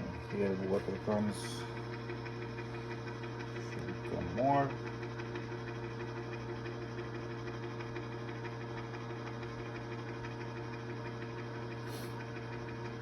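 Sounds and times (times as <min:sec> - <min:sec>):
ice maker humming: 0:00.0 - 0:13.0.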